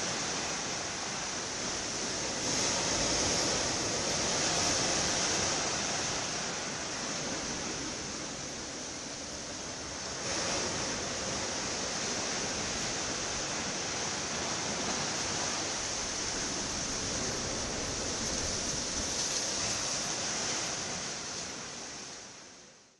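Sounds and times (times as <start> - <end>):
sea surf washing over beach: 0.0 - 22.7.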